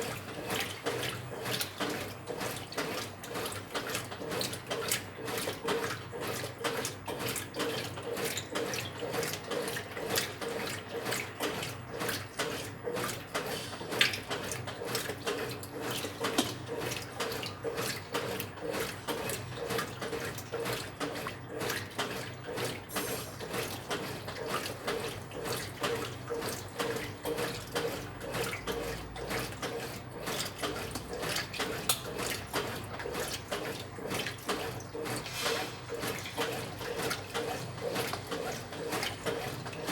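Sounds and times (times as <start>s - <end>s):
washing machine motor hum: 0.0s - 39.9s
water churning in washing machine: 0.0s - 39.9s.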